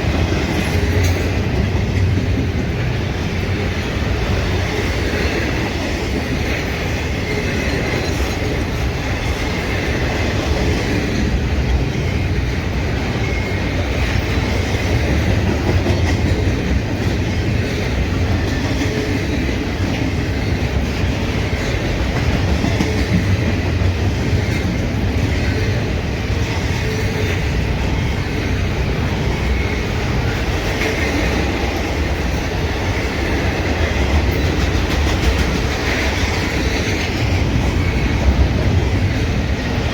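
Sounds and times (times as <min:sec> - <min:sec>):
freight train cars rolling: 0:00.0 - 0:39.9
wheels clacking over rail joints: 0:00.0 - 0:39.9.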